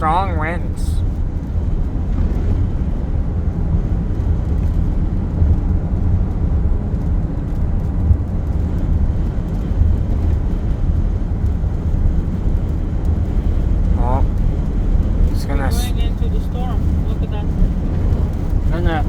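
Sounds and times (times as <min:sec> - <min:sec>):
road and wind noise inside car: 0:00.0 - 0:19.0.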